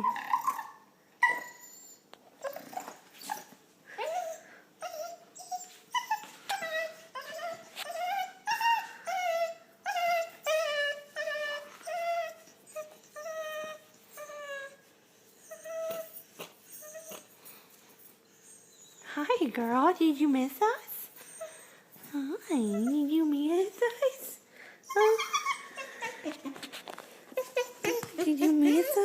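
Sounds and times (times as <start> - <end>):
dog whining and whimpering: 0.0 - 19.3, 21.1 - 29.0.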